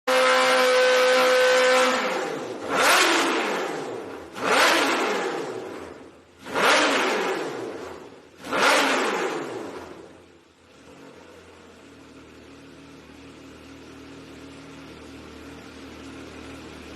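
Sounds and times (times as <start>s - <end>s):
motorcycle engine revving: 0.1s - 16.9s.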